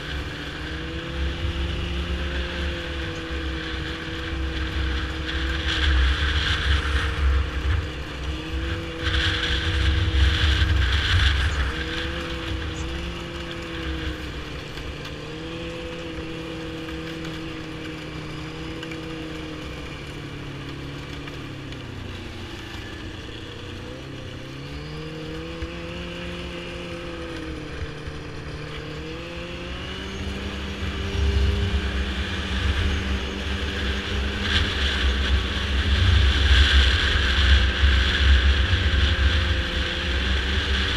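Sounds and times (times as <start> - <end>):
wind rumbling on microphone: 0.0 - 22.1, 24.0 - 40.9
snowmobile engine running: 0.0 - 40.9.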